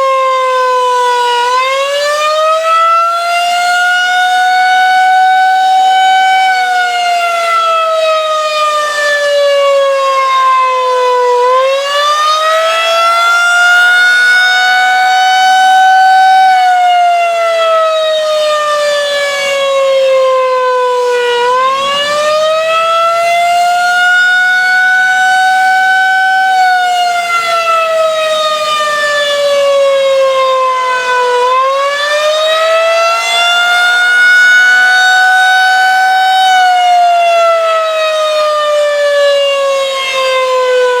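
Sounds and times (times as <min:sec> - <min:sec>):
rising and falling warning siren: 0:00.0 - 0:41.0.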